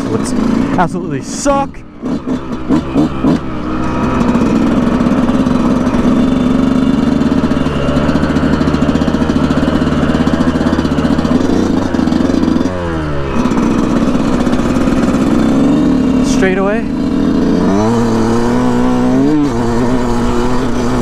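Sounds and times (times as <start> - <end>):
two-stroke dirt bike engine: 0.0 - 21.0.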